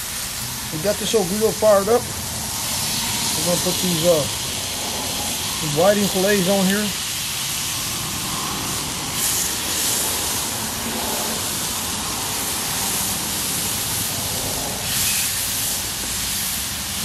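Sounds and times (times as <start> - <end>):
fish fillets sizzling on griddle: 0.0 - 17.0
highway traffic rush: 0.0 - 17.0.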